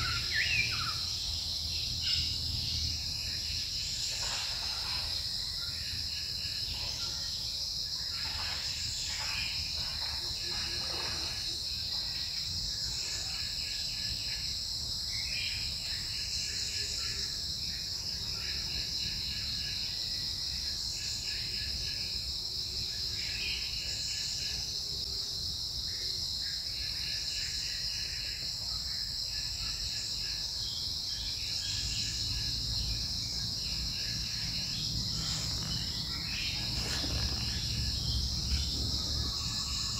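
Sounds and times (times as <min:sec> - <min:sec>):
insect chirping trills: 0:00.0 - 0:39.9
insects buzzing drone: 0:00.0 - 0:39.9.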